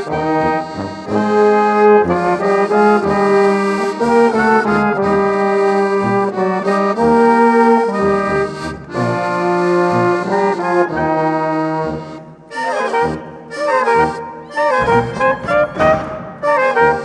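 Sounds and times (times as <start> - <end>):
accordion playing chords: 0.0 - 17.0
bass notes: 0.0 - 17.0
brass instruments: 0.0 - 17.0.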